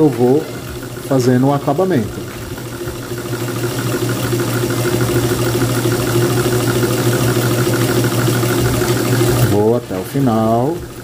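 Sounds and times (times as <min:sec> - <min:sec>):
sewing machine motor humming: 0:00.0 - 0:11.0.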